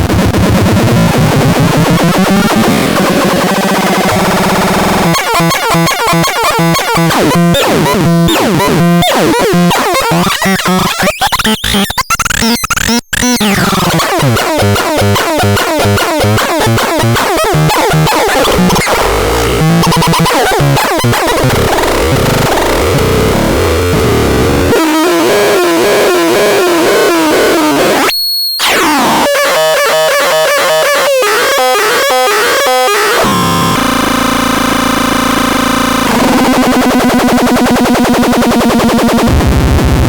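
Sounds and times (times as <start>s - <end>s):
synthesizer stuttering electronic tones: 0.0s - 40.0s.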